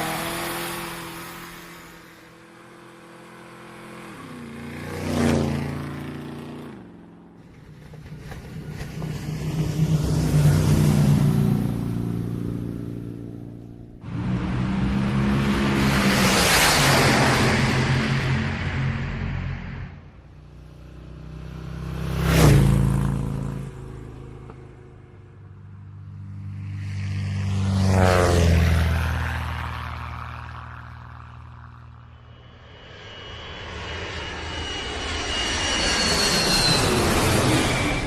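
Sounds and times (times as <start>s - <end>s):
vehicle engines: 0.0s - 38.0s
vehicle passing by: 0.0s - 38.0s.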